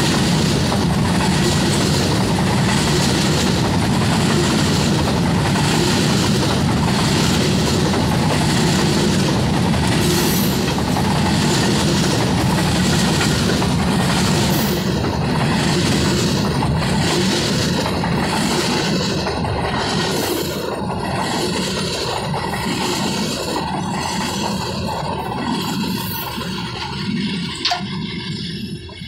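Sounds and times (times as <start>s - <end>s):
heavy rumble of train wheels: 0.0s - 29.0s
wheels clattering over rail joints: 0.0s - 29.0s.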